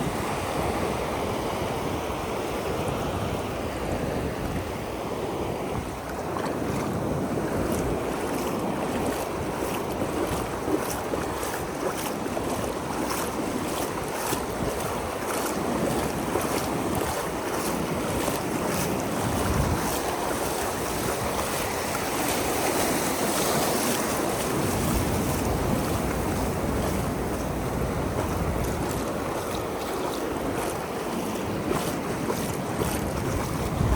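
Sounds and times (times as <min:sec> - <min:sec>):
ocean surf on beach: 0:00.0 - 0:33.9
wind rumbling on microphone: 0:00.0 - 0:33.9.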